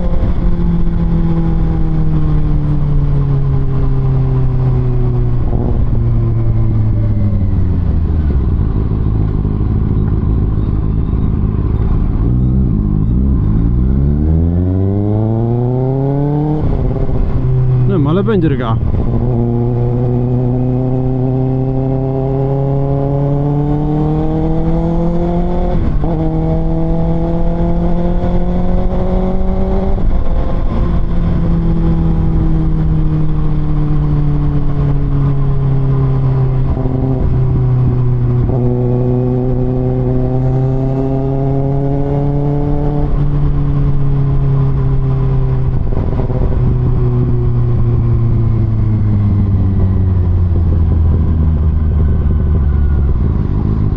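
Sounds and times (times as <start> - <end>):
motorcycle engine revving: 0.0 - 18.1, 18.8 - 53.9.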